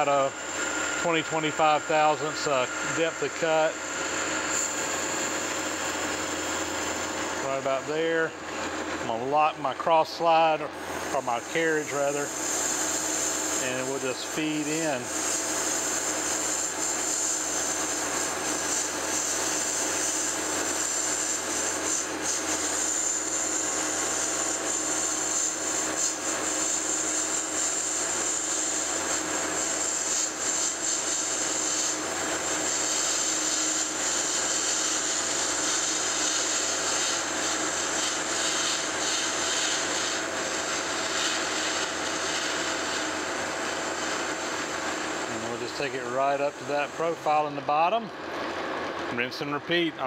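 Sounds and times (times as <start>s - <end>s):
lathe machine hum: 0.0s - 50.0s
lathe tool scraping cut with hiss: 0.0s - 50.0s.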